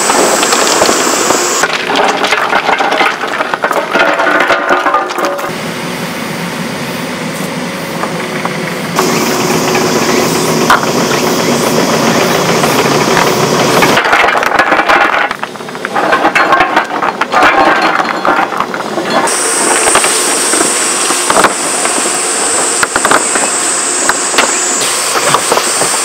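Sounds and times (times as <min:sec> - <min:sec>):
construction machinery engine: 0:00.0 - 0:26.0
steady high whine: 0:00.0 - 0:26.0.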